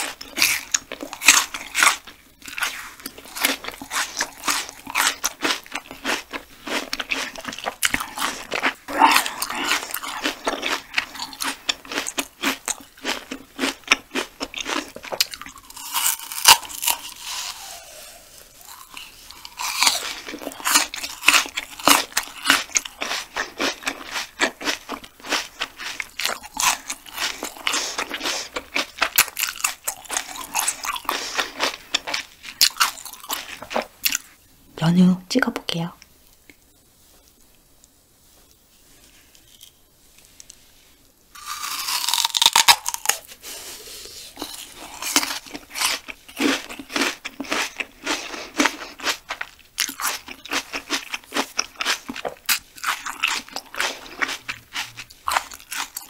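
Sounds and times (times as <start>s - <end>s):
person chewing crunchy food: 0.0s - 34.4s, 41.3s - 56.0s.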